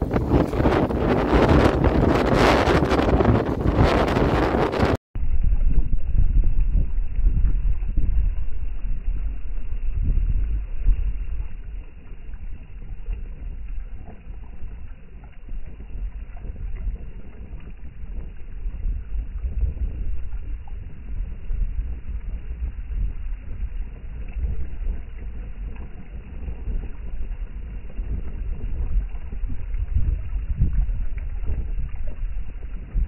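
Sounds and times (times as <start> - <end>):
waves washing on a pond: 0.0 - 5.0, 6.8 - 33.0
wind gusting against microphone: 0.0 - 33.0.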